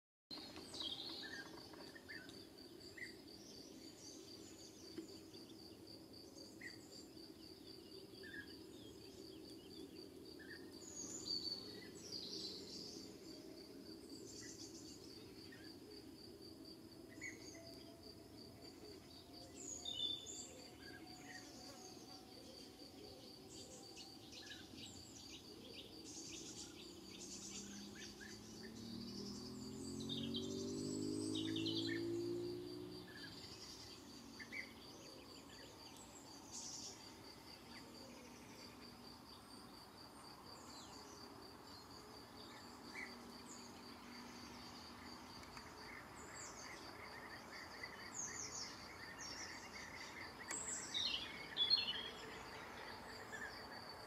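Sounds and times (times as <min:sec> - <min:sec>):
pulsing cricket-like insect song: 0:00.3 - 0:54.0.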